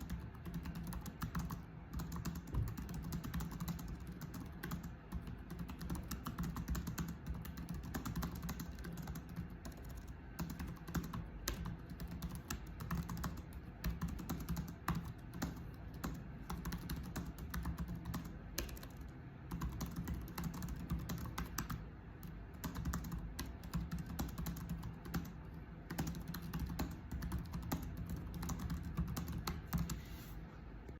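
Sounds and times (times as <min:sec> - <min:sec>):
keyboard typing: 0:00.0 - 0:30.0
faint low hum: 0:00.0 - 0:30.9.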